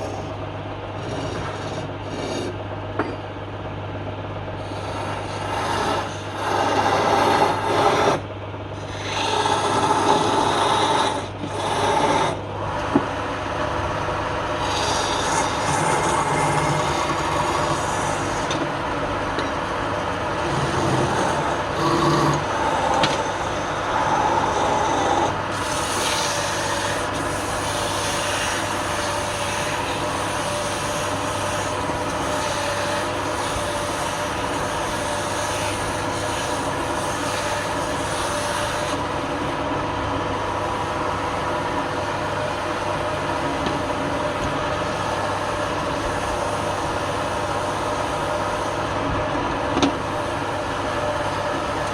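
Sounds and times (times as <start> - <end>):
tool rubbing spinning wood: 0.0 - 2.6, 4.5 - 51.9
wood lathe motor running: 0.0 - 3.1, 4.4 - 51.9.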